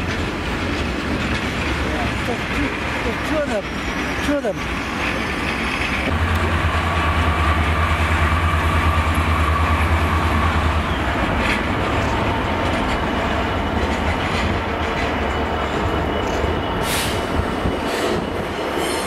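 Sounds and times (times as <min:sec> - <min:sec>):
diesel locomotive engine throb: 0:00.0 - 0:19.0
train wheels on rails: 0:00.0 - 0:19.0.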